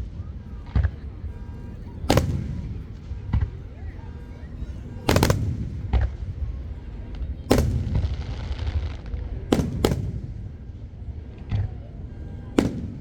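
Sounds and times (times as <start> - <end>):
fireworks booming: 0.0 - 13.0
fireworks crackling: 0.0 - 13.0
low rolling rumble: 0.0 - 13.0.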